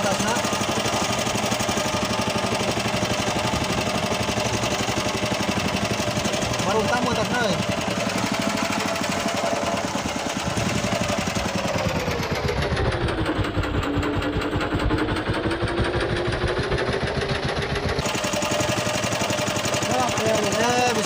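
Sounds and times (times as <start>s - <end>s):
boat engine running under load: 0.0s - 21.0s.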